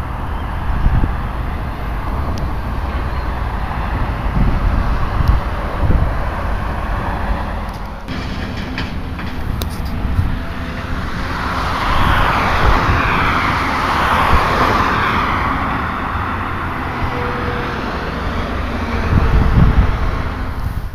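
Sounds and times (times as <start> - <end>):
traffic rumble: 0.0 - 20.9
vehicle passing by: 0.0 - 20.9.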